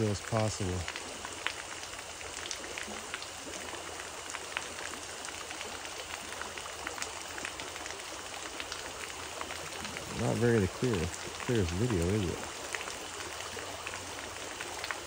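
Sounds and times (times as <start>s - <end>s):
creek water flowing: 0.0s - 15.0s
water ticks and drips: 0.0s - 15.0s.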